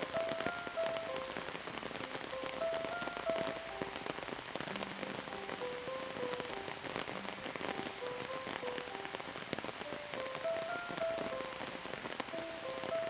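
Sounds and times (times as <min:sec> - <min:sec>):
raindrops striking a surface: 0:00.0 - 0:13.0
slow quiet melody: 0:00.0 - 0:13.0.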